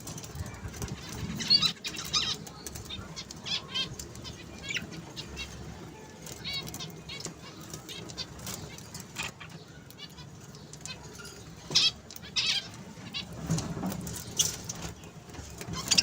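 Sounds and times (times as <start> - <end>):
parrots calling and squawking: 0.6 - 14.8, 15.6 - 16.0.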